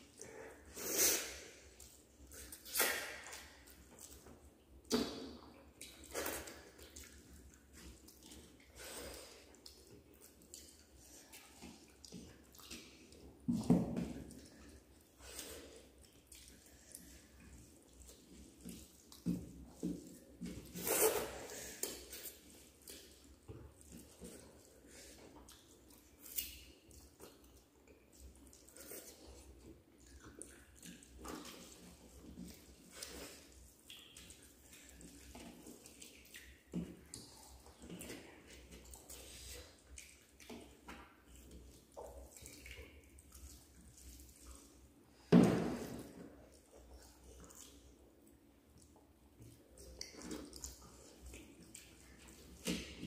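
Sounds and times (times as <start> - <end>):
wet chewing and lip-smacking: 0.0 - 45.2, 46.1 - 53.0
hands squishing rice on plates: 0.0 - 53.0.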